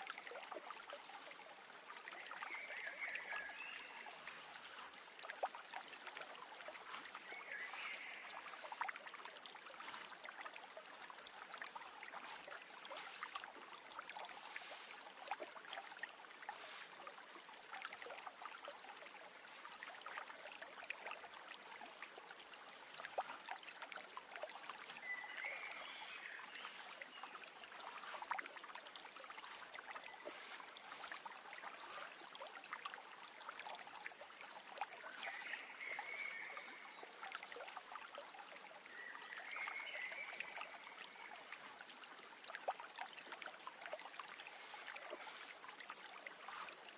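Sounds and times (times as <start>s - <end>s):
stream babbling: 0.0s - 46.9s.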